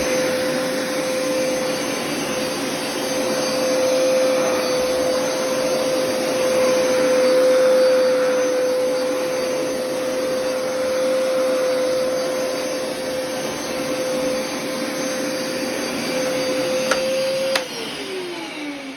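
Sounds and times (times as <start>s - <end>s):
vacuum motor whining: 0.0s - 18.9s.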